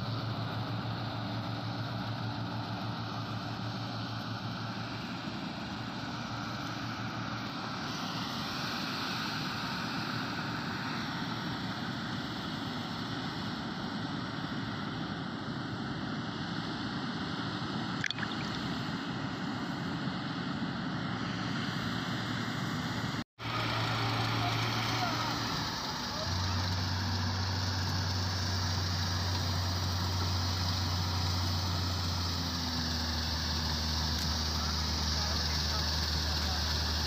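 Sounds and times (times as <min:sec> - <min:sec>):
combine harvester running: 0:00.0 - 0:18.0, 0:18.6 - 0:37.0.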